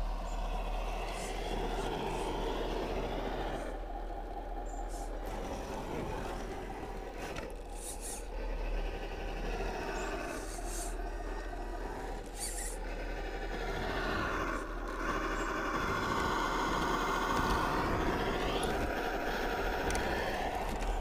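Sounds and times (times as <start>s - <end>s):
simulated engine sound: 0.0s - 21.0s.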